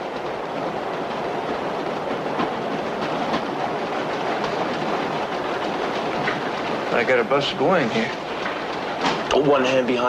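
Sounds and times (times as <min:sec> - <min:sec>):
subway car rumbling on rails: 0:00.0 - 0:10.0
wheel clacks: 0:00.0 - 0:10.0.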